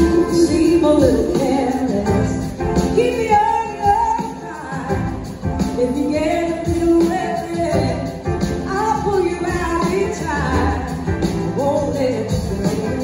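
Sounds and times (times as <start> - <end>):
steady drum beat: 0.0 - 13.0
woman singing lead: 0.0 - 13.0.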